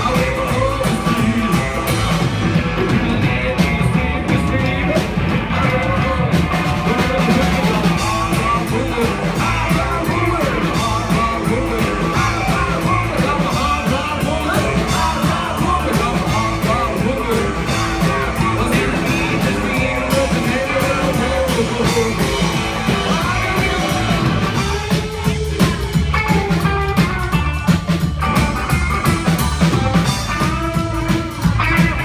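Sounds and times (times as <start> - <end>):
man singing: 0.0 - 27.6
drum kit beat: 0.0 - 32.0
electric guitar: 0.0 - 32.0
upright double bass: 0.0 - 32.0.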